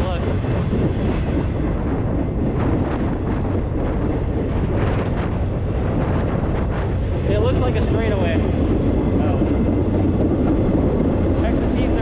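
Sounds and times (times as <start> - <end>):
freight train rumble: 0.0 - 12.0
wind buffeting microphone: 0.0 - 12.0.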